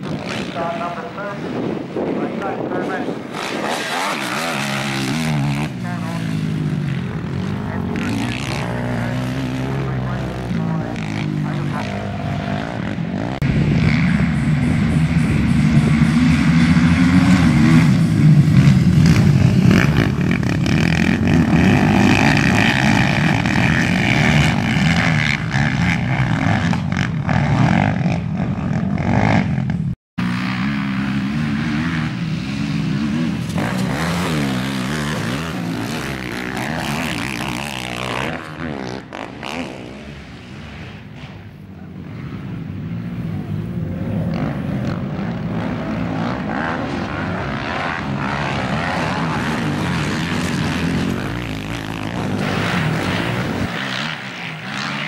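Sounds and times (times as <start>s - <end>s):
quad engines revving: 0.0s - 55.0s.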